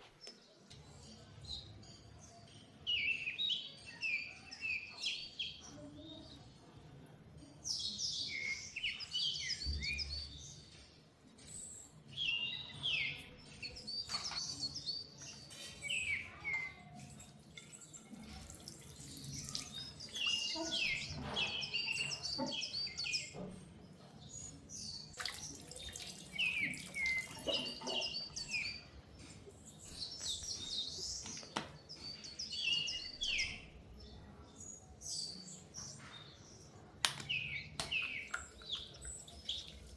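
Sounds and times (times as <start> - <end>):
small birds chirping: 7.6 - 39.9.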